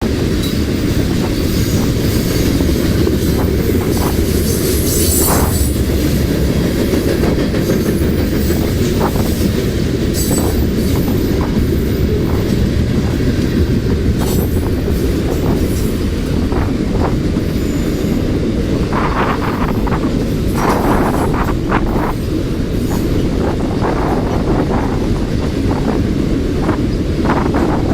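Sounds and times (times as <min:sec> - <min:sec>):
freight train wheels rumbling: 0:00.0 - 0:27.9.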